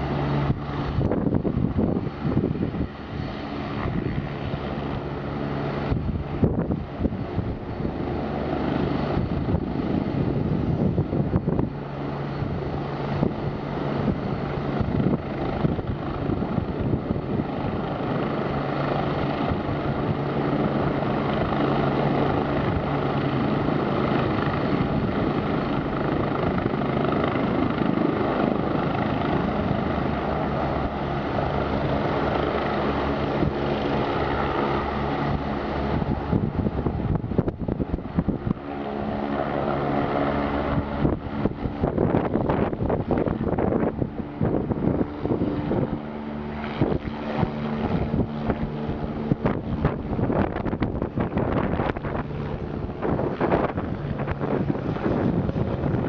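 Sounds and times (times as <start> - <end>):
helicopter rotor and turbine drone: 0.0 - 56.0
pitched helicopter hum: 0.0 - 56.0.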